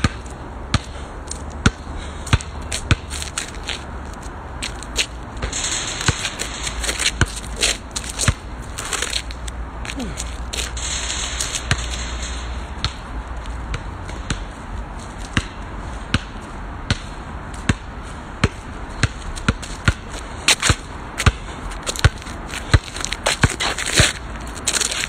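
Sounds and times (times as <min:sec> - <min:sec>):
basketball bouncing on asphalt: 0:00.0 - 0:25.0.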